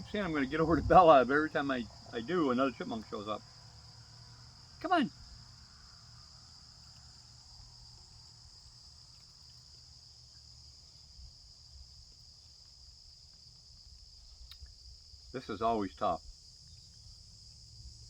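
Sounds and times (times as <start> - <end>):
insect chorus drone: 0.0 - 18.0.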